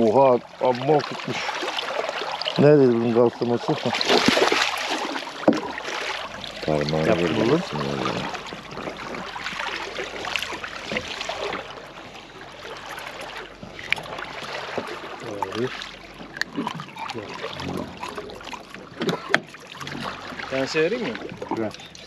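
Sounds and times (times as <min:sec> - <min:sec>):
water lapping against boat: 0:00.0 - 0:22.0.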